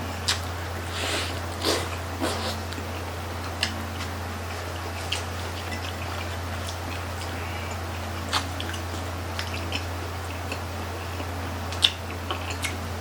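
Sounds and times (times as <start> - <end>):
low hum: 0.0 - 13.0
wet chewing smacks: 0.2 - 12.8.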